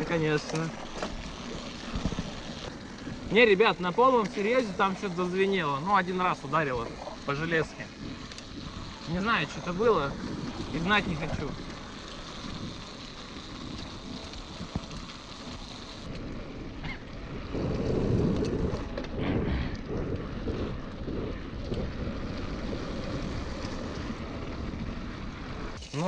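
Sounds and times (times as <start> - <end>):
wind buffeting microphone: 0.0 - 25.8
bike tyres rumbling on dirt: 0.0 - 26.0.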